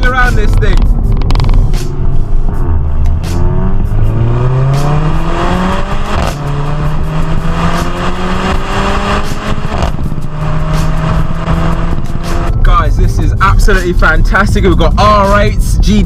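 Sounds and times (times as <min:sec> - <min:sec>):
car exhaust under hard acceleration: 0:00.0 - 0:16.0.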